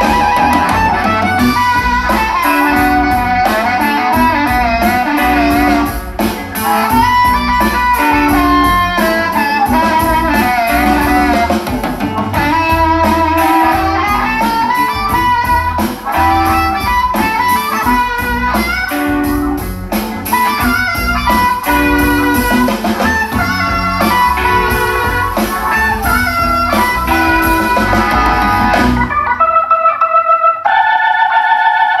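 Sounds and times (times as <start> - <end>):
guitar-led music with drums: 0.0 - 32.0.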